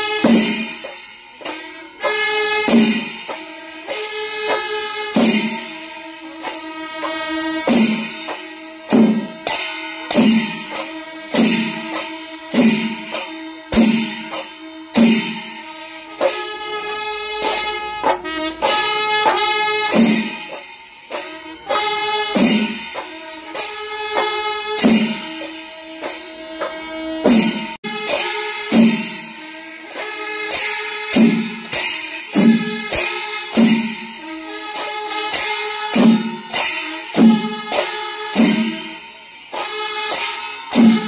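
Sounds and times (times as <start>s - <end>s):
cymbals clashing: 0.0s - 41.0s.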